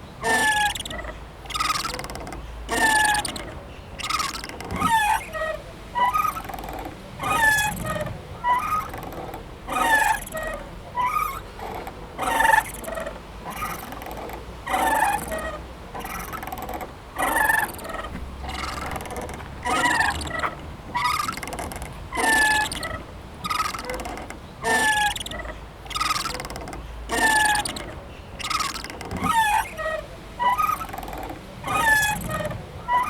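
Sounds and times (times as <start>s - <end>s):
swing squeaking: 0.0s - 33.0s.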